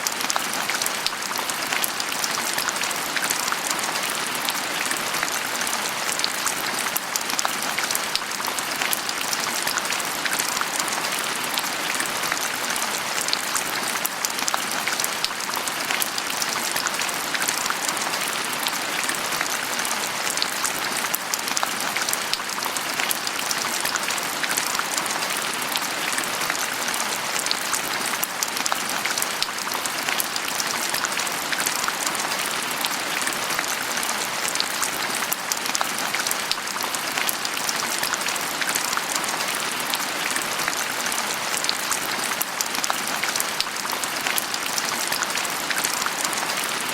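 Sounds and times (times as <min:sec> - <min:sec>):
rain patter: 0:00.0 - 0:46.9.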